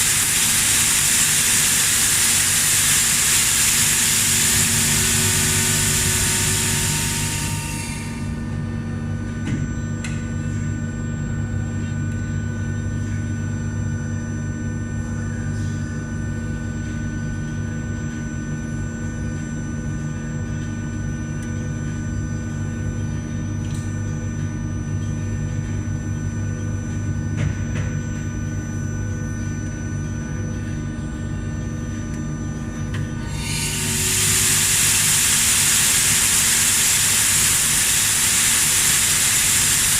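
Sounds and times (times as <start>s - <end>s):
air compressor humming and whining: 0.0s - 39.9s.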